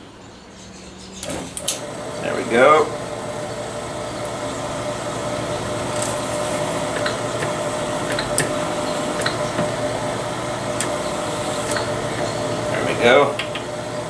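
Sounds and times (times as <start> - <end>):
electric drill cutting brass: 1.2 - 14.0.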